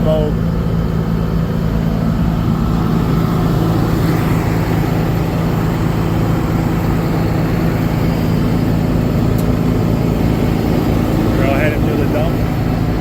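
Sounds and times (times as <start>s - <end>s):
diesel truck engine humming: 0.0s - 13.0s.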